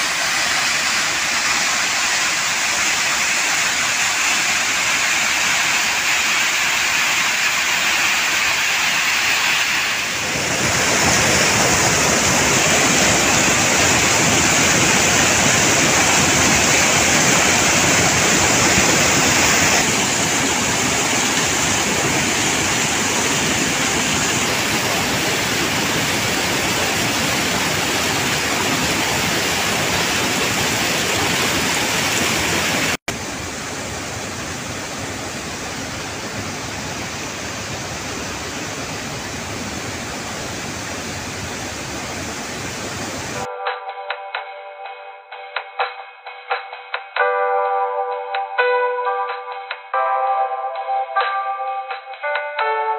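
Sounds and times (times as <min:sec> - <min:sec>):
waterfall roaring: 0:00.0 - 0:43.5.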